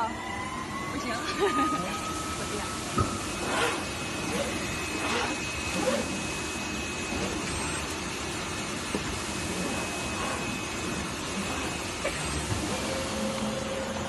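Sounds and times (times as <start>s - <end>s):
high whine: 0.0s - 14.0s
machine hum: 0.0s - 14.0s.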